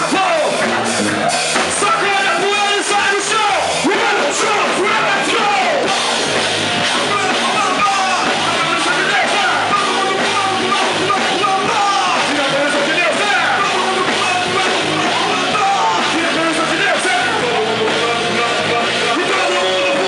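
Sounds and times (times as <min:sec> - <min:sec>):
live rock praise music: 0:00.0 - 0:20.0
voices singing and shouting: 0:00.0 - 0:20.0.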